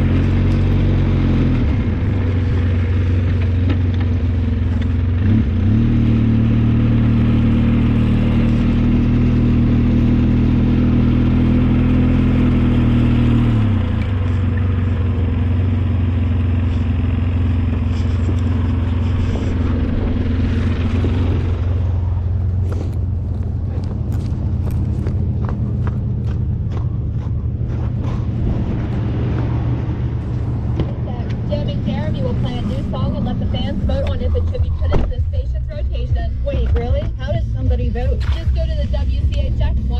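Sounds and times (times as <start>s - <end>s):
snowplow engine running: 0.0s - 39.9s.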